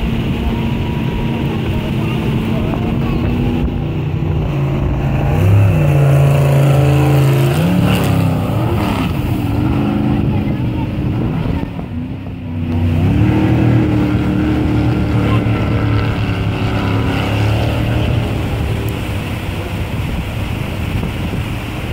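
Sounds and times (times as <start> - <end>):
jet boat engine revving: 0.0 - 21.9
river rapids rushing: 0.0 - 21.9.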